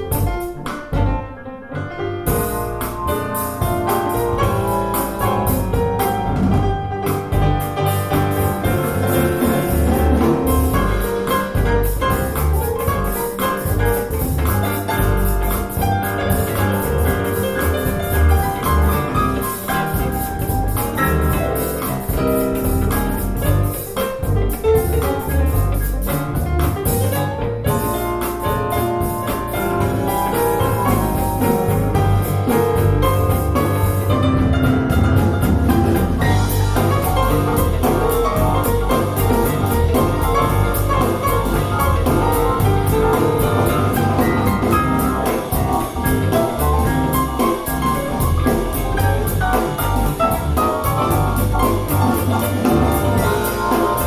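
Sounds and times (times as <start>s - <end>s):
piano music with bass and drums: 0.0s - 54.0s.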